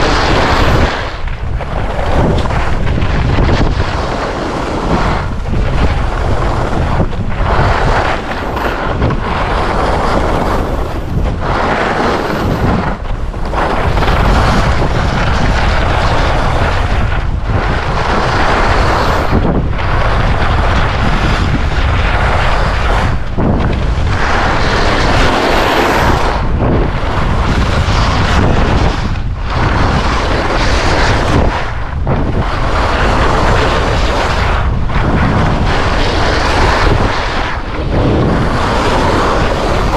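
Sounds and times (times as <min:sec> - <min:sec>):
skis scraping on snow: 0:00.0 - 0:39.9
wind rumble on microphone: 0:00.0 - 0:39.9.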